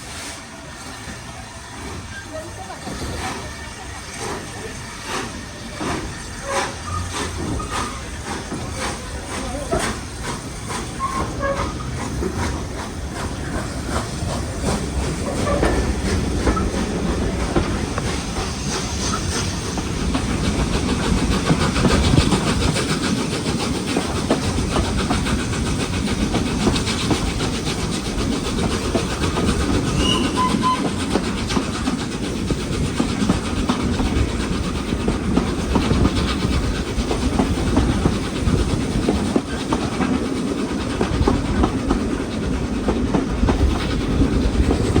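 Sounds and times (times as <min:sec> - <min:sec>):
hiss: 0:00.0 - 0:45.0
train rumbling on rails: 0:00.0 - 0:45.0.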